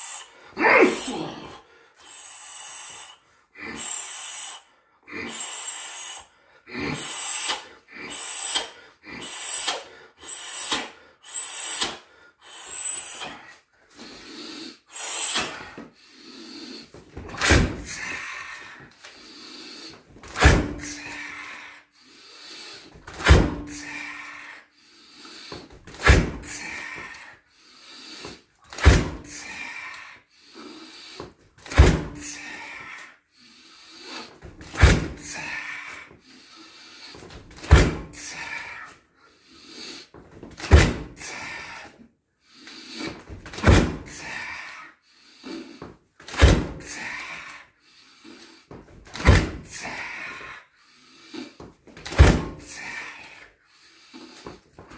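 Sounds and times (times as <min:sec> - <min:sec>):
man exhaling forcefully: 0:00.0 - 0:41.9, 0:42.6 - 0:53.4.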